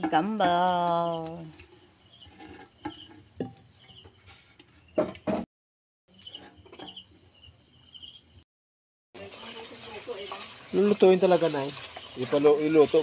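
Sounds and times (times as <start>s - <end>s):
insects chirring: 0.0s - 5.4s, 6.1s - 8.4s, 9.2s - 13.0s.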